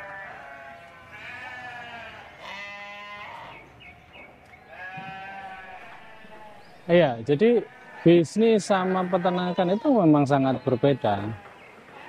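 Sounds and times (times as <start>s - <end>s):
sheep bleating: 0.0s - 3.7s, 4.7s - 12.0s.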